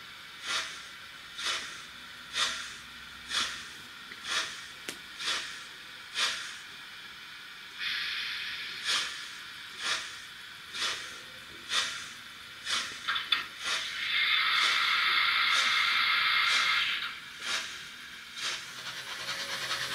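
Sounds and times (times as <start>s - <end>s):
steady steam hiss: 0.0s - 19.9s
steam exhaust chuffs: 0.0s - 19.9s.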